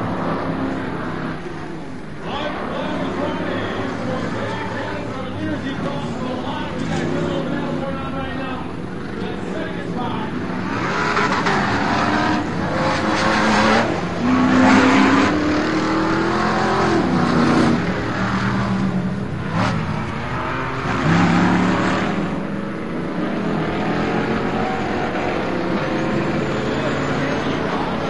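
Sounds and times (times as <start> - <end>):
racing truck engines revving: 0.0 - 28.0.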